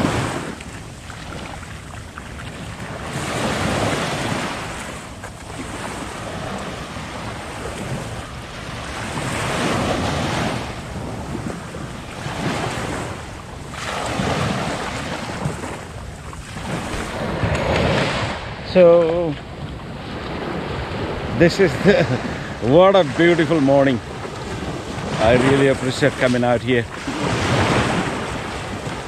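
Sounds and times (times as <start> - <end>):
ocean waves breaking: 0.0 - 29.0
wind buffeting microphone: 0.0 - 29.0.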